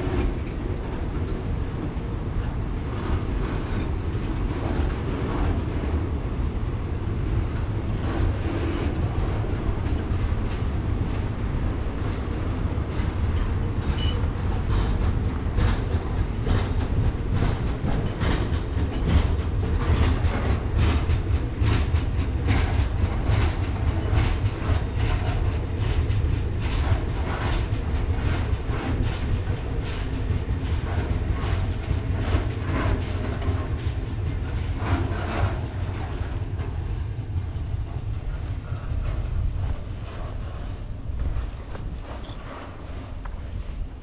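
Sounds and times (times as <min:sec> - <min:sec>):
freight train rumbling past: 0:00.0 - 0:44.0
wheels clicking over rail joints: 0:07.3 - 0:44.0.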